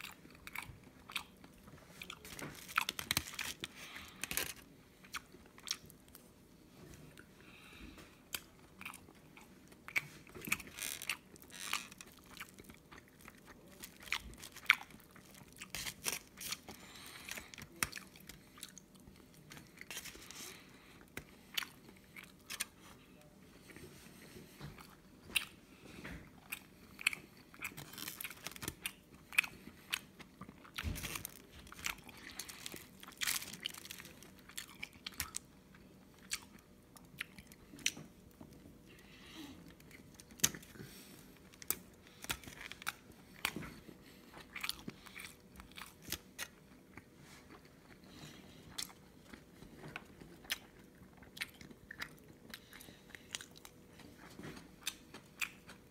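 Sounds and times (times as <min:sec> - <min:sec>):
mouth chewing food: 0:00.0 - 0:06.3, 0:07.0 - 0:55.9.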